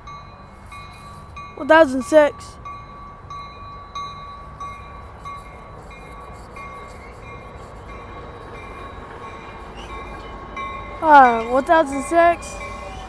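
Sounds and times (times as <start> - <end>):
train rumble: 0.0 - 13.0
train warning bell ringing: 0.0 - 13.0.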